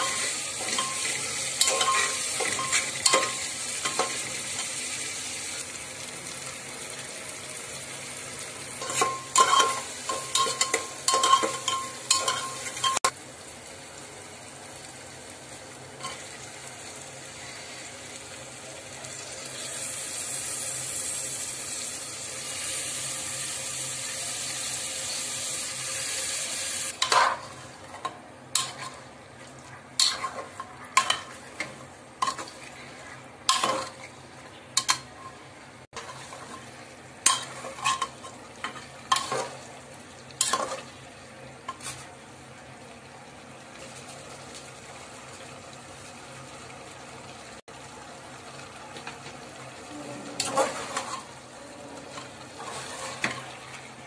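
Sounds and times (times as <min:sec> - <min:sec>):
spices sizzling in ghee: 0:00.0 - 0:54.0.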